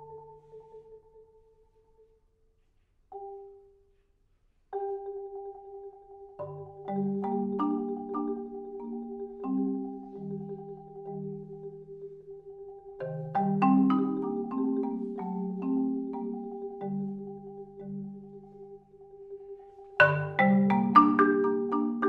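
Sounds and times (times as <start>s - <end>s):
marimba played with mallets: 0.0s - 2.2s, 3.1s - 4.0s, 4.7s - 22.0s.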